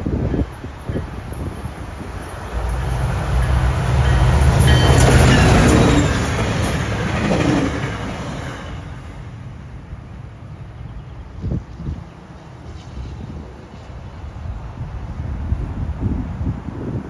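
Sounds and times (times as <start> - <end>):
train wheels running on rails: 0.0 - 15.5
diesel train engine hum: 0.0 - 16.6.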